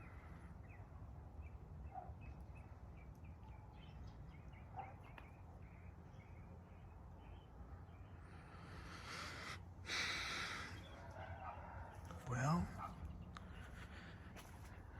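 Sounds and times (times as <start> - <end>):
faint birds chirping: 0.0 - 14.9.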